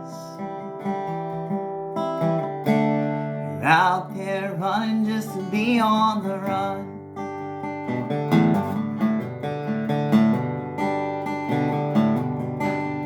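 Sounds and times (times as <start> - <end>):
resonator guitar picking: 0.0 - 13.0.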